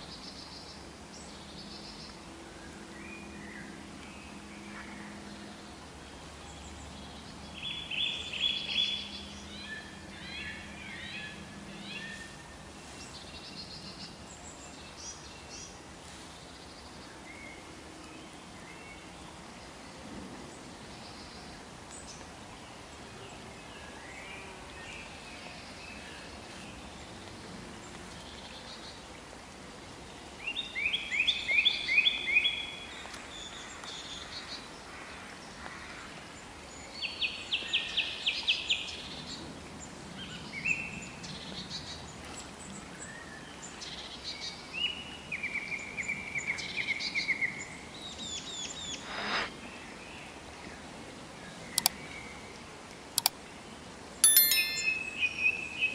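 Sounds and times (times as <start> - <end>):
steady outdoor hiss: 0.0 - 55.9.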